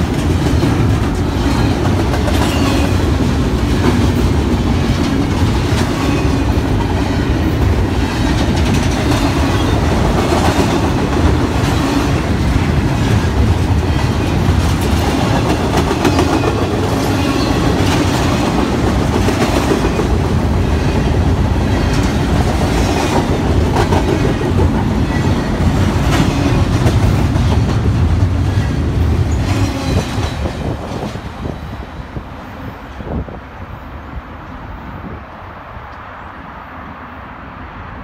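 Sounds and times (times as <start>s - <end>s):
train wheels clicking on rail joints: 0.0s - 31.8s
freight train rumbling: 0.0s - 38.0s.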